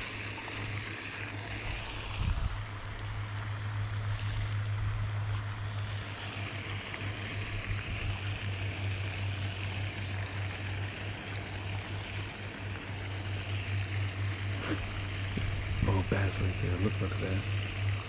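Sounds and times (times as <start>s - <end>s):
low hum: 0.0s - 18.0s
water splashing: 0.0s - 18.0s.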